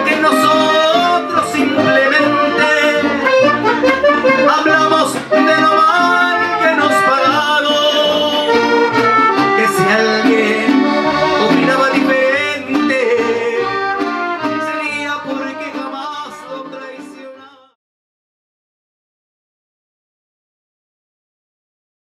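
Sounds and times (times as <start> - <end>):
instrumental background music: 0.0 - 17.7.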